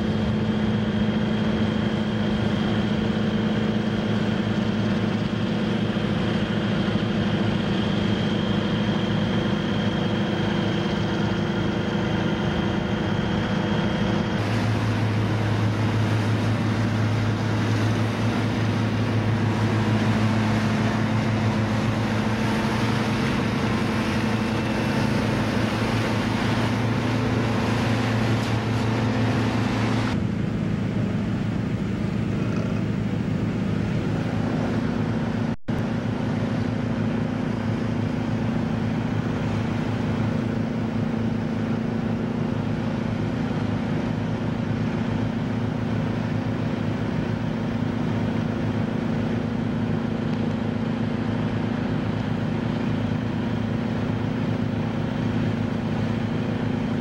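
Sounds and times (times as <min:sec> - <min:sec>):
boat engine droning: 0:00.0 - 0:57.0
rushing water and wind: 0:00.0 - 0:57.0.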